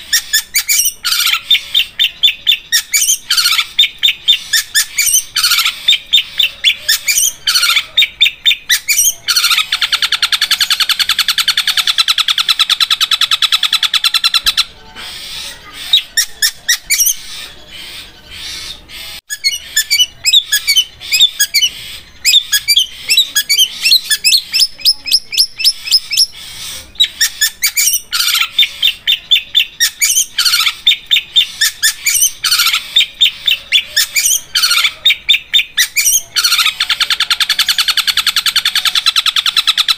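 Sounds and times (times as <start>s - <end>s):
bird chattering: 0.0s - 39.9s
fast rattling bird trill: 0.0s - 39.9s.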